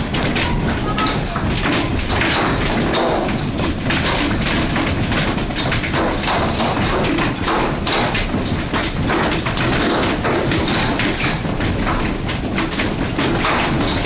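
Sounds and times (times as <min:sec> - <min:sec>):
hailstones pelting hard surfaces: 0:00.0 - 0:14.0.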